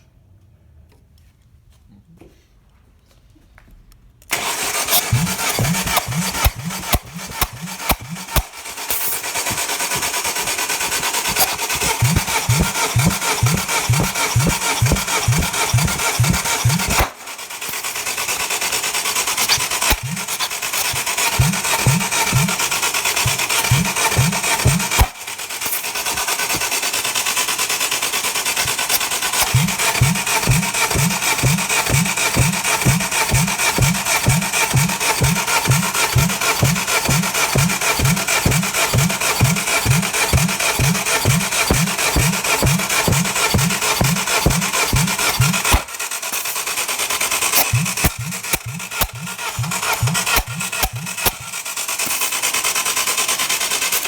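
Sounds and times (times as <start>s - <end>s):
starter motor cranking engine: 4.3s - 54.0s.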